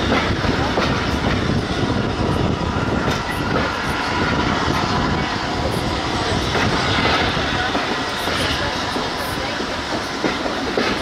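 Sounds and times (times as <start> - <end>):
train rumbling along track: 0.0 - 11.0.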